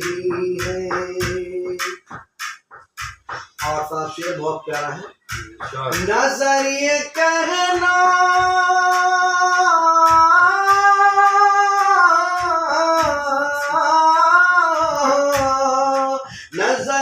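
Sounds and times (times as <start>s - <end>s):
soft percussive strokes: 0.0s - 16.9s
light musical accompaniment: 0.0s - 17.0s.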